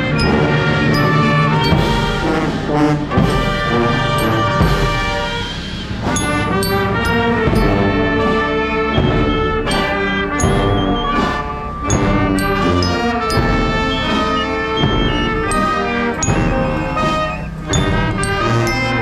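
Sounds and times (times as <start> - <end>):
brass band playing funeral march: 0.0 - 19.0
drum and cymbal strikes: 0.0 - 19.0.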